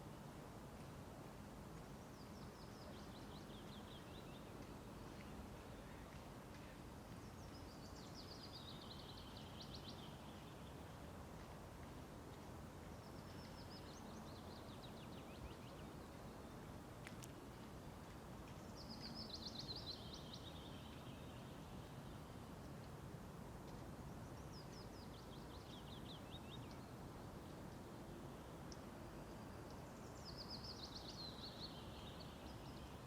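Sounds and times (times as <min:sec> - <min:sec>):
low outdoor background hiss: 0:00.0 - 0:33.0
songbird singing: 0:01.8 - 0:23.0, 0:23.6 - 0:33.0.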